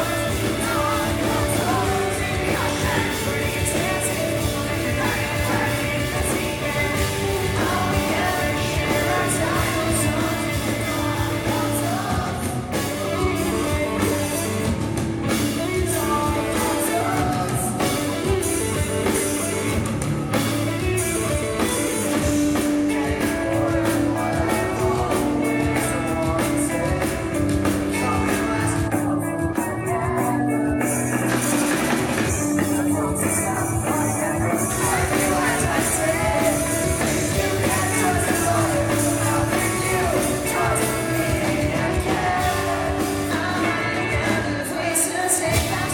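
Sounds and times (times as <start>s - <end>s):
pop-punk band playing live: 0.0s - 45.9s.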